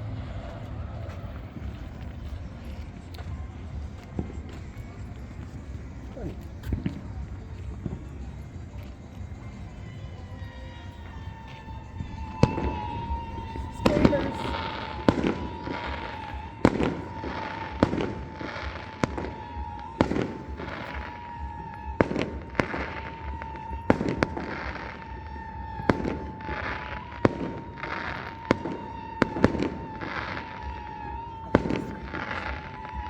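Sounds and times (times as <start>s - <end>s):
fireworks bangs with crackling tails: 0.0s - 33.0s.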